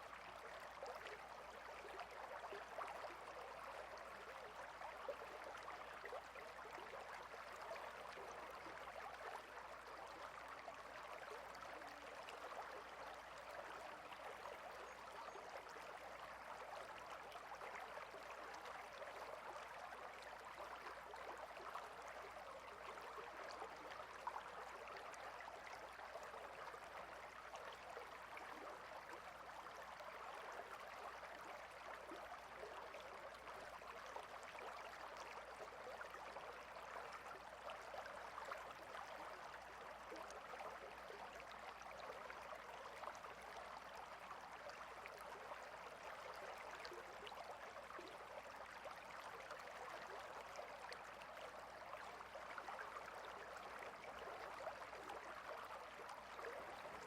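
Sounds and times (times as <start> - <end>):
water stream flowing: 0.0 - 57.0.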